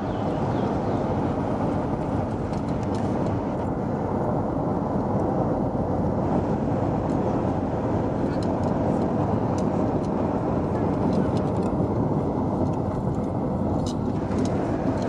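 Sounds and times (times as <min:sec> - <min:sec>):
vehicle road noise: 0:00.0 - 0:15.0
wind noise: 0:00.0 - 0:15.0.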